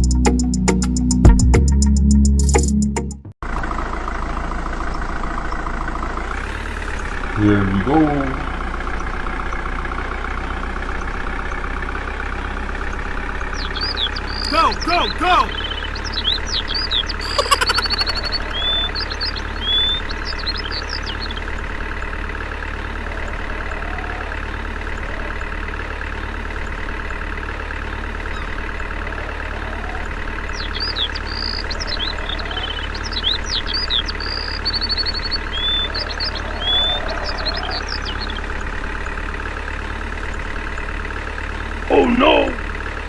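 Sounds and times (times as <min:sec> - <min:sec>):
birds chirping: 0:04.2 - 0:43.0.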